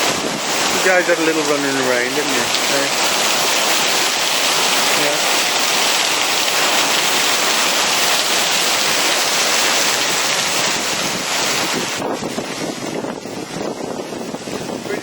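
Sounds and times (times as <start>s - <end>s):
torrential rain pouring: 0.0s - 15.0s.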